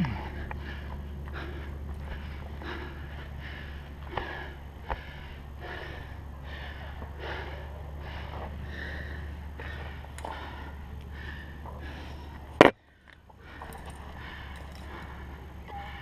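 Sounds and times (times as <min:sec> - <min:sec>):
rapid heavy breathing: 0:00.0 - 0:16.0
steady low hum: 0:00.0 - 0:16.0.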